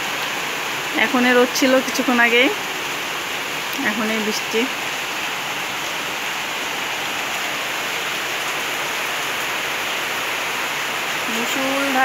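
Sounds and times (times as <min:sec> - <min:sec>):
heavy rain downpour: 0:00.0 - 0:12.0.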